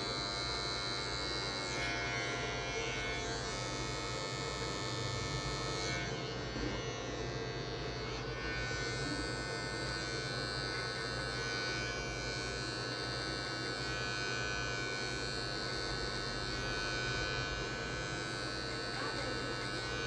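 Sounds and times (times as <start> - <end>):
electric hair clipper buzzing: 0.0 - 20.0.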